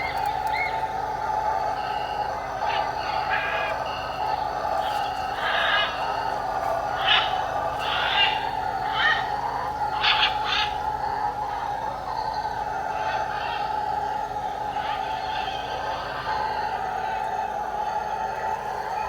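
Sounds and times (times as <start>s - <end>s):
steady drone of wildlife: 0.0s - 19.0s.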